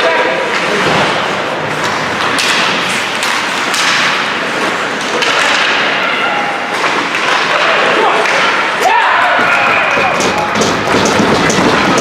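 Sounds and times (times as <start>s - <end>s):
hockey sticks and puck knocking: 0.0s - 6.0s, 6.7s - 12.0s
skates scraping ice: 0.0s - 12.0s.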